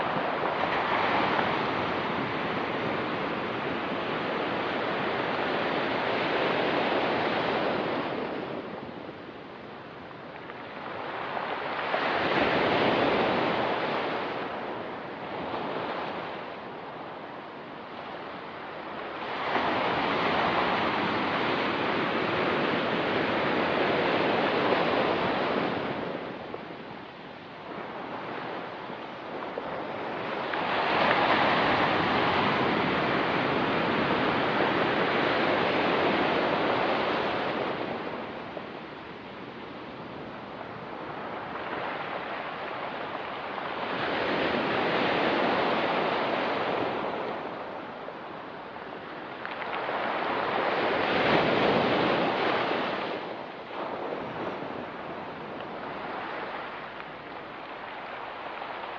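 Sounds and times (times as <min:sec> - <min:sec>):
light wind: 0:00.0 - 0:58.9.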